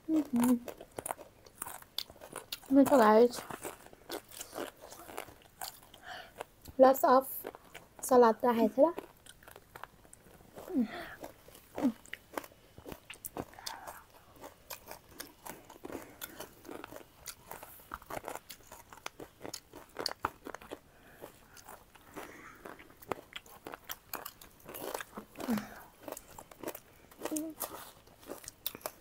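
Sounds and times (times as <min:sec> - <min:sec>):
crunching and chewing snack: 0:00.1 - 0:08.2, 0:08.9 - 0:29.0.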